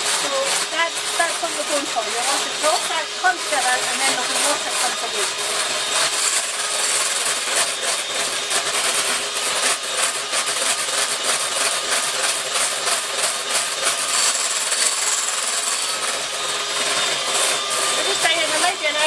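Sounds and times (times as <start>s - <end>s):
electric hand mixer whipping cream: 0.0s - 19.0s.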